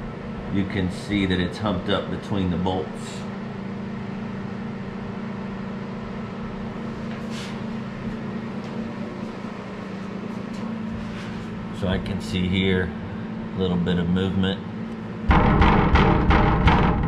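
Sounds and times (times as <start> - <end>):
fan unit humming: 0.0 - 17.0.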